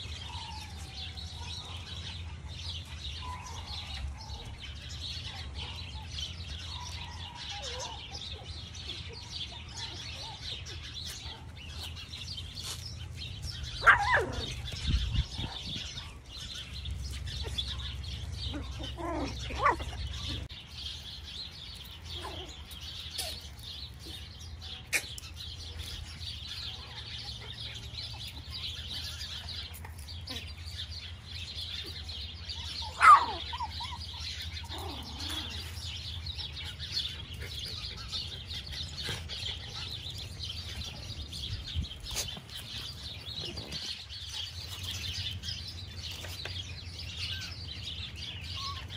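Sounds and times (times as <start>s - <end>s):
birds chirping: 0.0s - 48.9s
puppies yelping: 0.0s - 48.9s.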